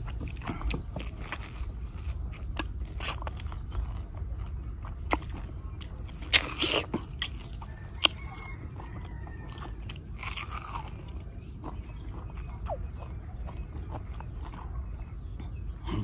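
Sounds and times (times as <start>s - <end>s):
person chewing wet mouth sounds: 0.0s - 16.0s.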